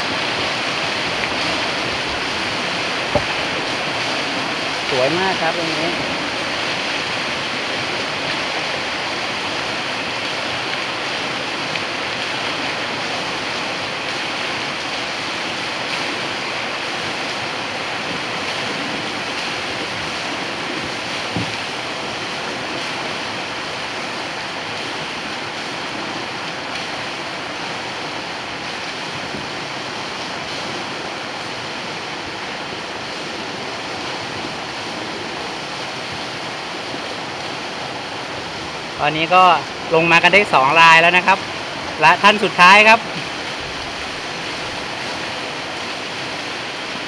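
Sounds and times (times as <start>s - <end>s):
river water rushing over rapids: 0.0s - 47.0s.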